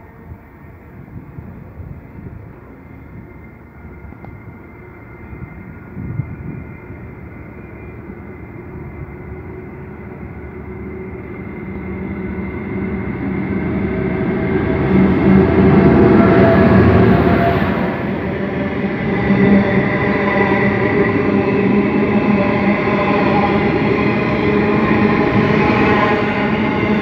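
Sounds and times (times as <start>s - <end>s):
locomotive engine hum: 0.0s - 27.0s.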